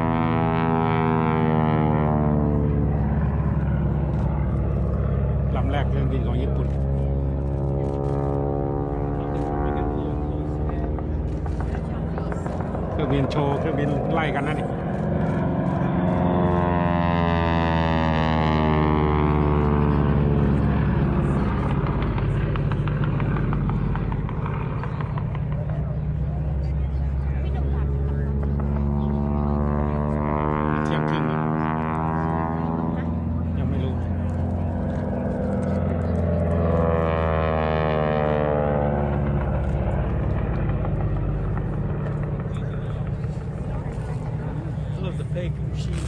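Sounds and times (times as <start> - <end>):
propeller airplane passing by: 0.0 - 46.0.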